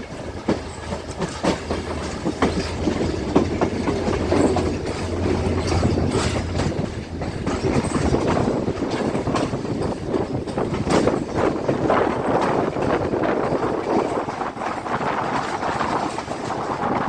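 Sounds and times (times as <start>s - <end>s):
train rumbling: 0.0s - 17.0s
wheels clacking over rail joints: 0.0s - 17.0s.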